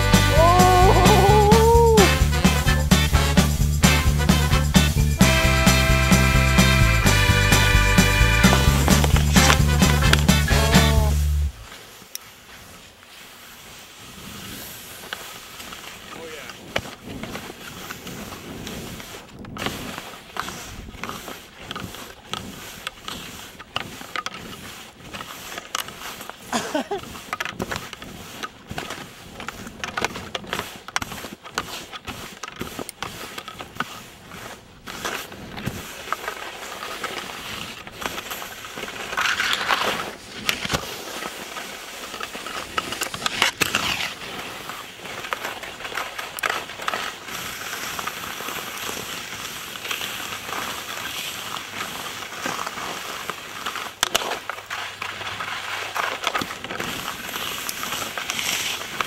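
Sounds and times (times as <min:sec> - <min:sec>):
skis scraping over snow: 0:00.0 - 0:59.0.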